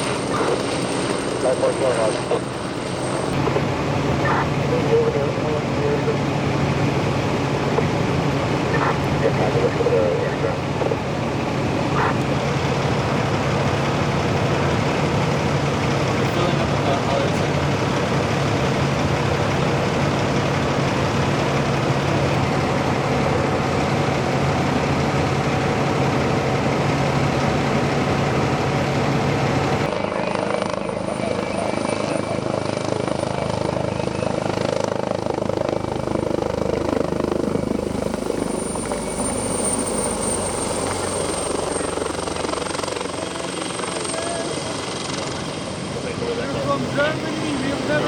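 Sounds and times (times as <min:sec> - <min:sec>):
helicopter rotor and engine: 0:00.0 - 0:48.0.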